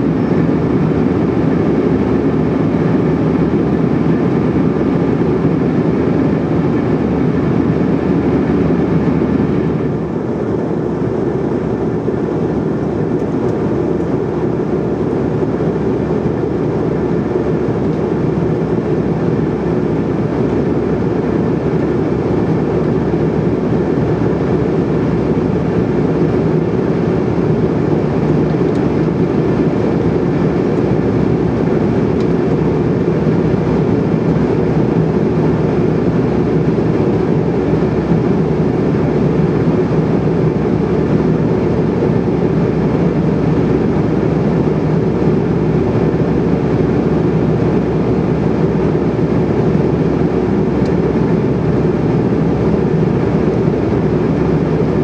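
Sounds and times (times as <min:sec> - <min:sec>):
jet engines humming: 0:00.0 - 0:55.0.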